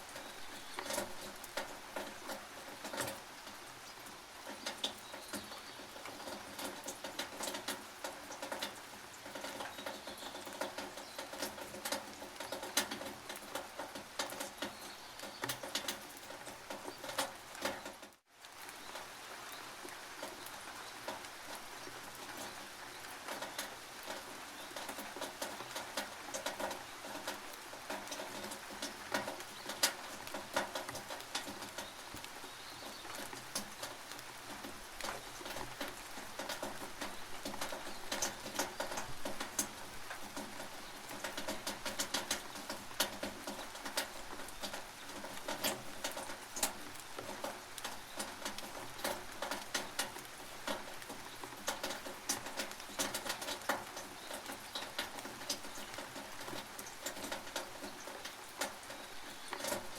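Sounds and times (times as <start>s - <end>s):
rain pattering on a tin roof: 0.0s - 59.9s.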